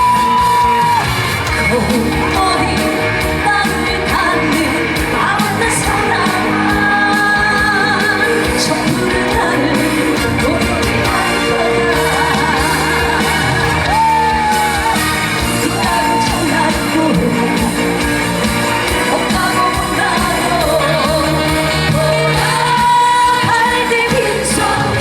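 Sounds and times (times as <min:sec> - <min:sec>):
amplified band playing: 0:00.0 - 0:25.0.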